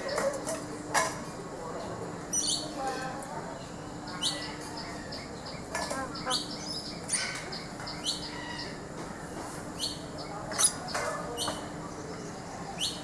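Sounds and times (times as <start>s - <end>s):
birds chirping: 1.8s - 8.8s, 9.4s - 13.0s.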